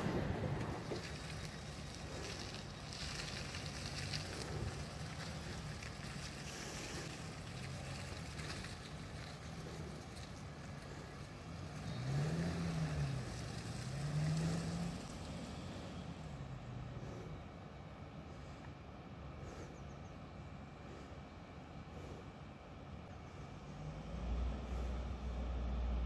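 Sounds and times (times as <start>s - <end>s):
train diesel engines running: 0.0s - 26.0s.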